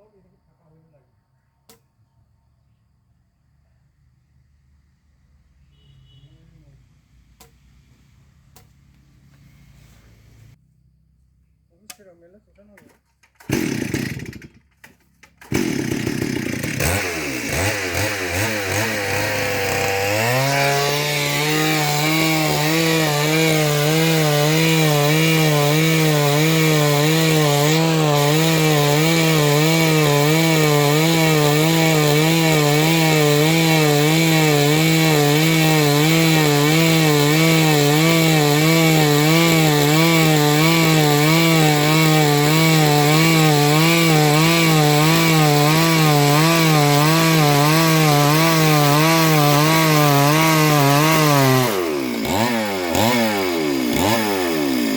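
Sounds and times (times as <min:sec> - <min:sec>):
chainsaw cutting wood: 0:08.5 - 0:10.5, 0:12.0 - 0:54.9.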